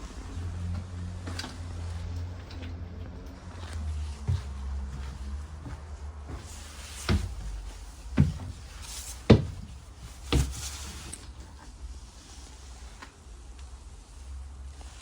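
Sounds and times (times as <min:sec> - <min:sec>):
bus engine rumble: 0:00.0 - 0:12.7.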